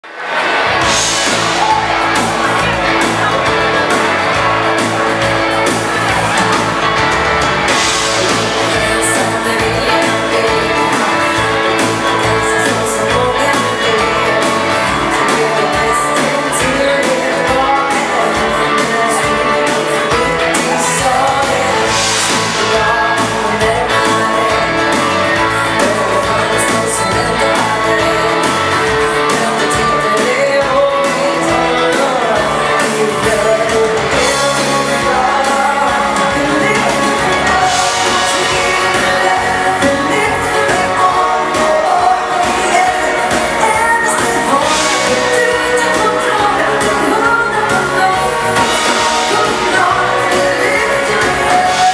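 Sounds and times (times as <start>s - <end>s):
drums: 0.0s - 51.9s
electric guitars: 0.0s - 51.9s
woman singing lead vocals: 0.8s - 51.9s.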